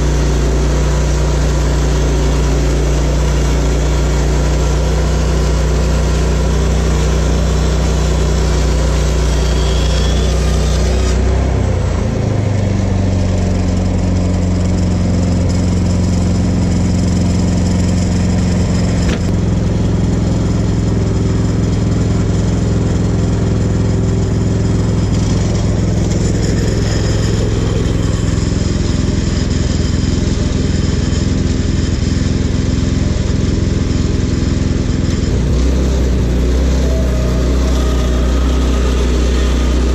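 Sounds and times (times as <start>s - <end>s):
sawmill gas engine running: 0.0s - 39.9s.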